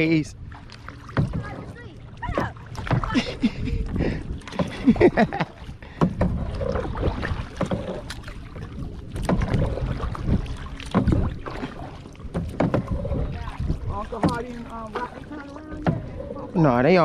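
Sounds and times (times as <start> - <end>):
paddle splashes and knocks: 0.0 - 17.0
wind on microphone: 1.2 - 16.8.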